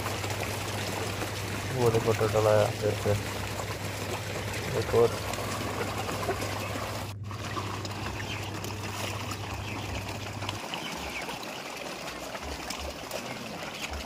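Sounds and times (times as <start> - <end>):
fish splashing at water surface: 0.0 - 14.0
low steady hum: 0.0 - 14.0.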